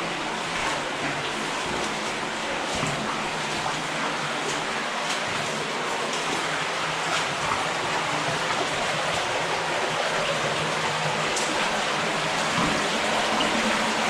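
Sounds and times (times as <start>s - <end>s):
underground stream and waterfall rushing: 0.0s - 14.0s.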